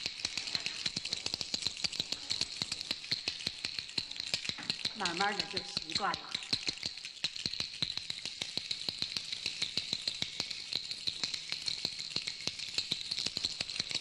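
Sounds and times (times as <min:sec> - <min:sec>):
hammers tapping soles of feet: 0:00.0 - 0:14.0
small bells jingling: 0:00.0 - 0:14.0.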